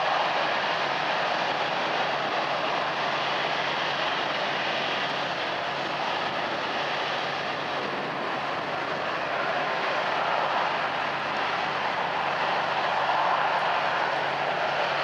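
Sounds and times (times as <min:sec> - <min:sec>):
jet engines running at low power: 0:00.0 - 0:15.0.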